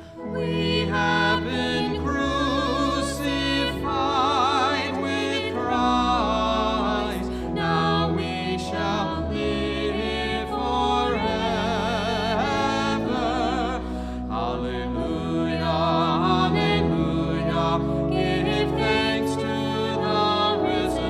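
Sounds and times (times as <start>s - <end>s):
slow melody with vibrato: 0.0s - 21.0s.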